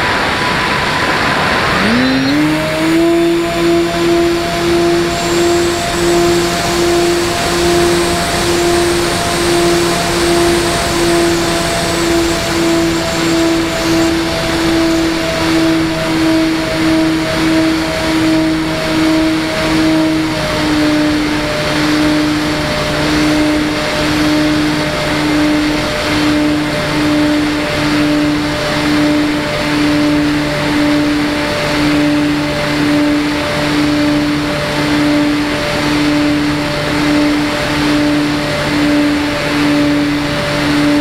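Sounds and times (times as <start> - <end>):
model aircraft motors humming: 0.0 - 41.0
rushing propeller noise: 0.0 - 41.0.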